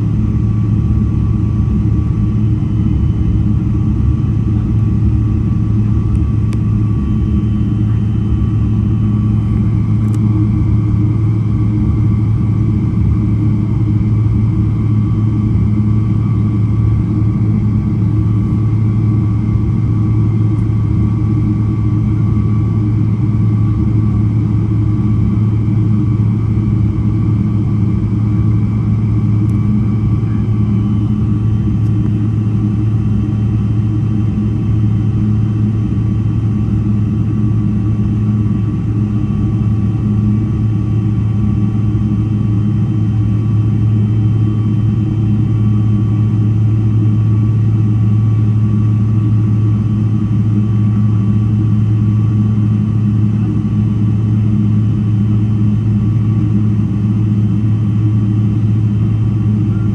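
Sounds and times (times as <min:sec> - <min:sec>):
aircraft cabin hum: 0:00.0 - 0:59.9
faint steady whines: 0:00.0 - 0:59.9.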